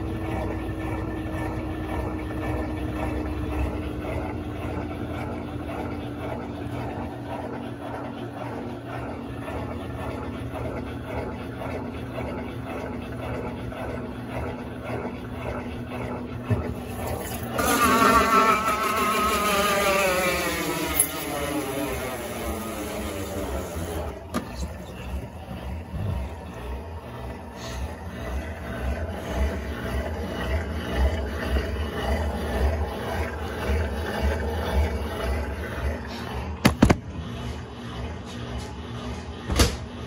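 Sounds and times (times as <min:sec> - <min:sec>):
washing machine drum whine: 0:00.0 - 0:40.0
washing machine motor hum: 0:00.0 - 0:40.0.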